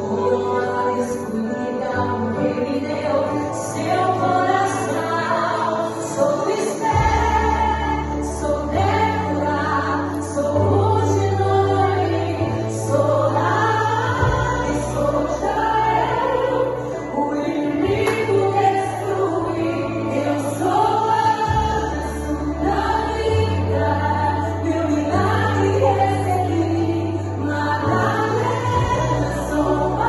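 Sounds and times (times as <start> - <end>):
choir singing a gospel song: 0.0 - 30.0.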